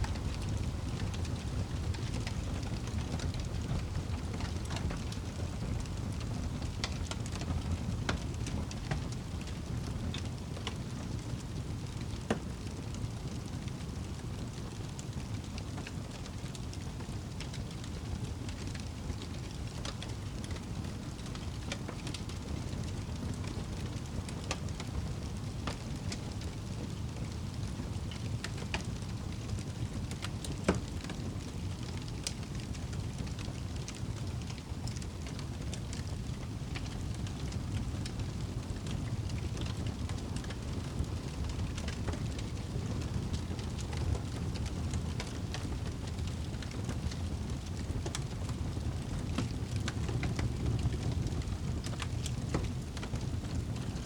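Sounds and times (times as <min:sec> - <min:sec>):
fire crackling and popping: 0:00.0 - 0:54.0
fire flames rumbling: 0:00.0 - 0:54.0.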